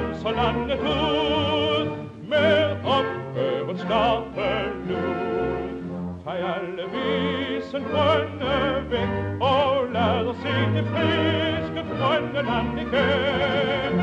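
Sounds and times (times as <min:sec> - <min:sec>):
operatic singing with vibrato: 0:00.0 - 0:14.0.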